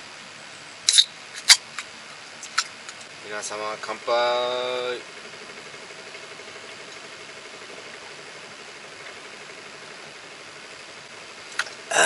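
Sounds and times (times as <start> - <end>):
background hiss: 0.0 - 12.0
faint mechanical hum: 0.0 - 12.0.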